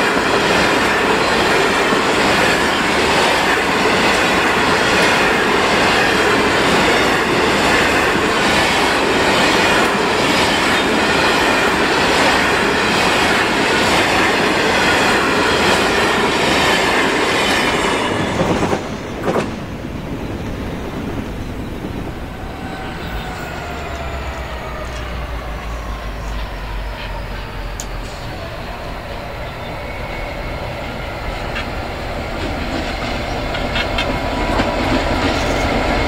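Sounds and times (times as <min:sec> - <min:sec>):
freight train rolling past: 0:00.0 - 0:36.0.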